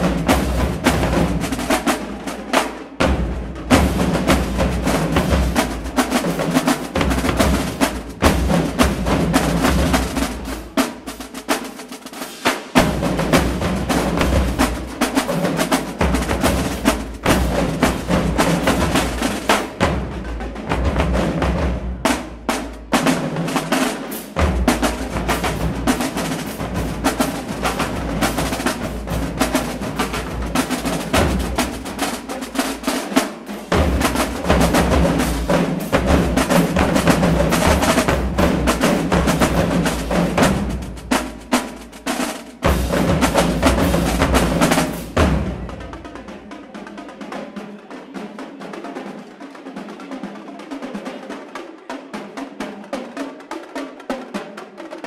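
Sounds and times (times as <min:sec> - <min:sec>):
snare drum rolls: 0:00.0 - 0:55.0.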